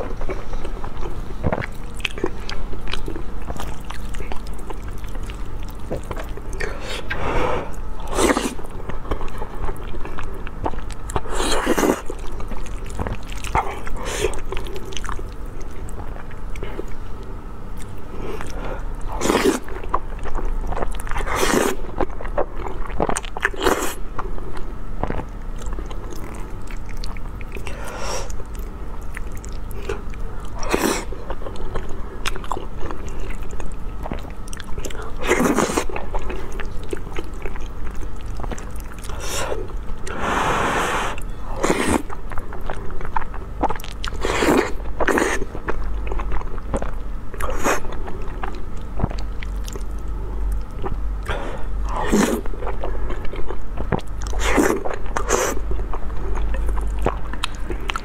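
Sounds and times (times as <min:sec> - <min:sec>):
food being chewed: 0:00.0 - 0:58.0.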